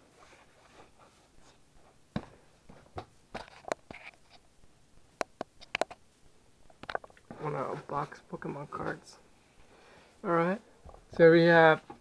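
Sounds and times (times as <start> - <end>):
faint rustling: 0.0 - 12.0.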